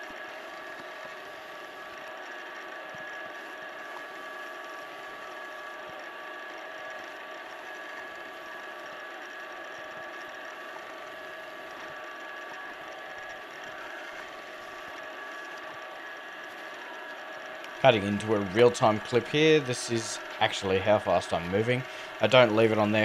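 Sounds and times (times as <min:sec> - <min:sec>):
wood lathe motor hum and whine: 0:00.0 - 0:23.0.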